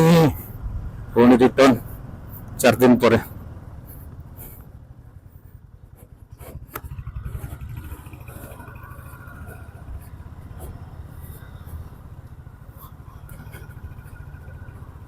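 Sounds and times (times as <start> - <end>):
motorcycle engine throbbing: 0.0 - 15.0.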